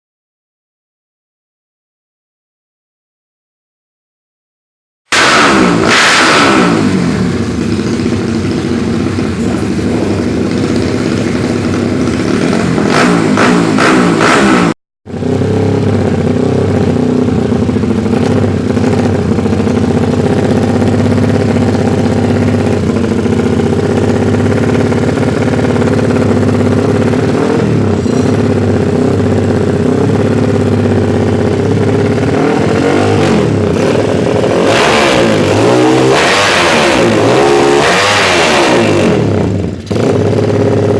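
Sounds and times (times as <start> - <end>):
motorcycle engine revving and idling: 5.1 - 40.9.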